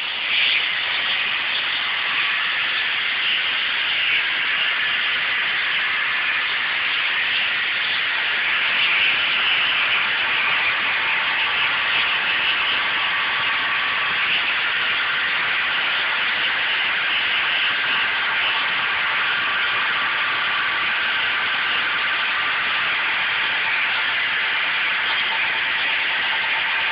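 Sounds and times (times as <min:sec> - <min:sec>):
vacuum system hissing: 0:00.0 - 0:26.9.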